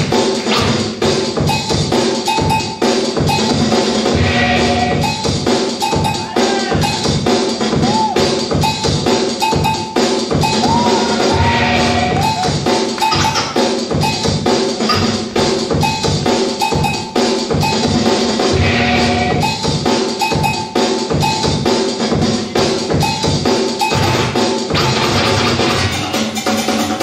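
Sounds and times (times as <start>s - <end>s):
breakbeat music with drum beat: 0.0s - 27.0s.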